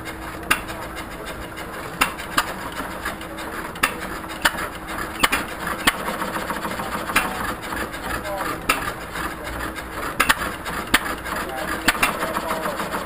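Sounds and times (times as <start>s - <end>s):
hit-and-miss engines popping: 0.0s - 13.0s.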